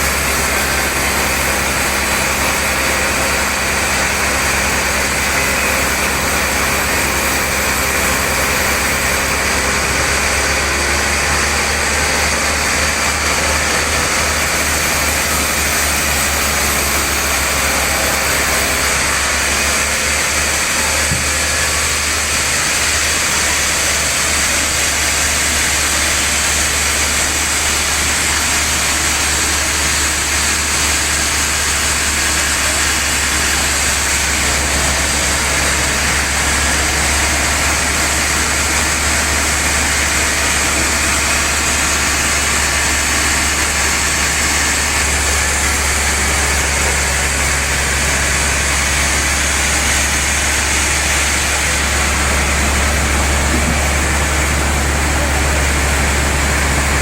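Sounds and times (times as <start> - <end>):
sawmill machine drone: 0.0 - 57.0
wide hiss: 0.0 - 57.0.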